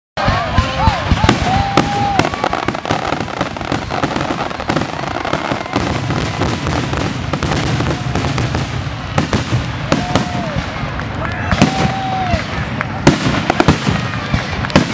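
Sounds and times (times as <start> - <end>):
fireworks bangs and crackles: 0.2 - 14.9.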